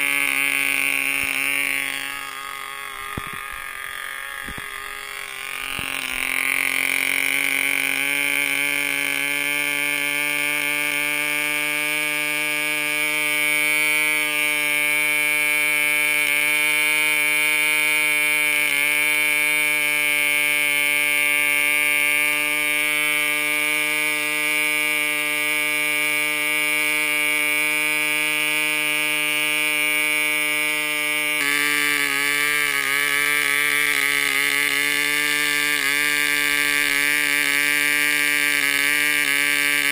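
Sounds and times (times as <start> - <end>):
model diesel engine running: 0.0 - 39.9.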